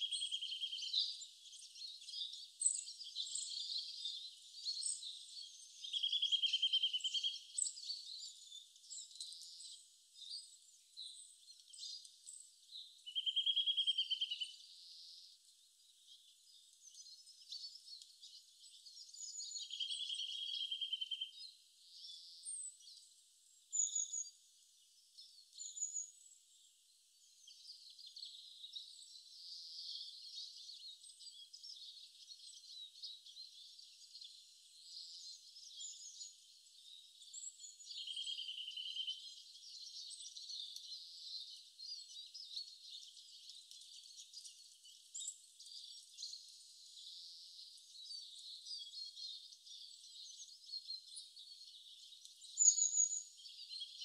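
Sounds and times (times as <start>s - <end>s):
bird chirps and trills: 0.0s - 15.4s, 16.0s - 23.1s, 27.3s - 54.0s.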